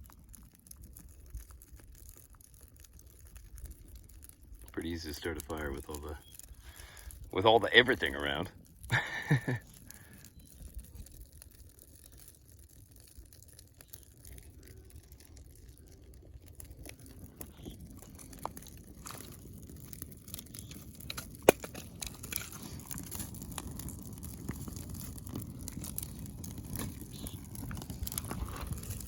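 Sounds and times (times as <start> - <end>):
campfire kindling crackling: 0.0 - 29.0.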